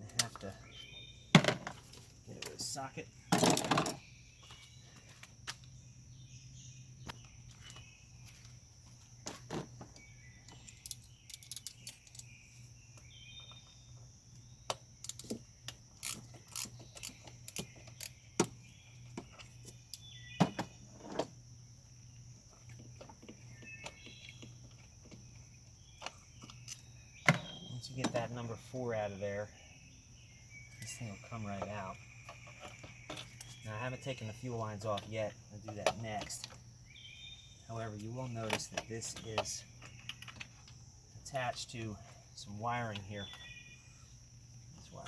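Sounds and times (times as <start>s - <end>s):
birds chirping: 0.0s - 45.0s
high insect drone: 0.0s - 45.0s.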